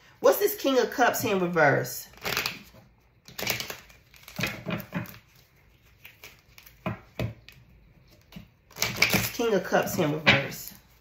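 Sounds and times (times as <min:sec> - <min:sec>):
cards rustling and slapping: 0:02.1 - 0:11.0.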